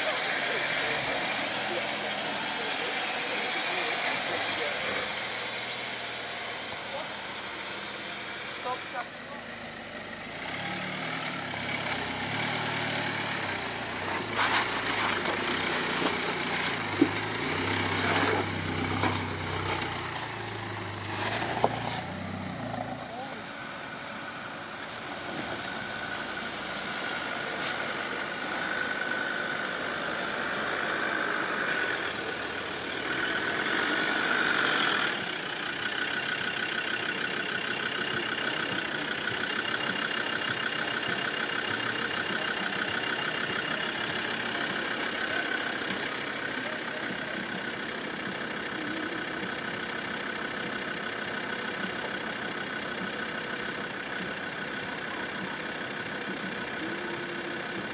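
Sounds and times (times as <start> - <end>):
diesel engine running at low revs: 0.0 - 57.9.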